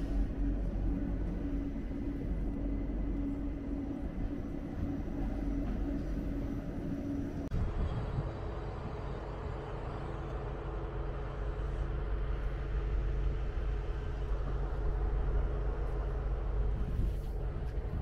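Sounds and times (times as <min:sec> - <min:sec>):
locomotive low rumble: 0:00.0 - 0:18.0.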